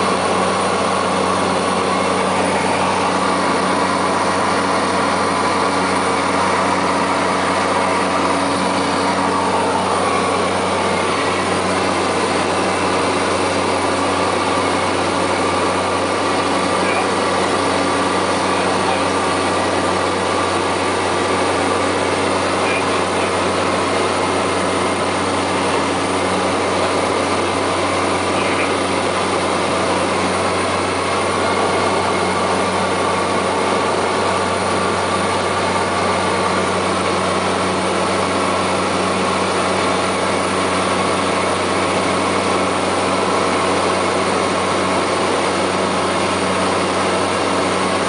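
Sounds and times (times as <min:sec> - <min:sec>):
light airplane engine droning: 0:00.0 - 0:48.0.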